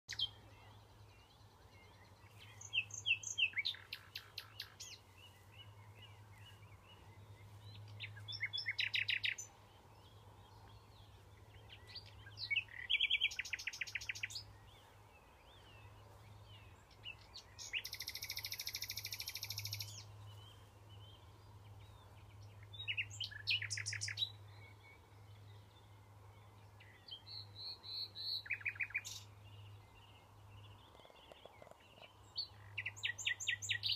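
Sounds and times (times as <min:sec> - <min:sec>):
nightingale singing: 0:00.1 - 0:33.9.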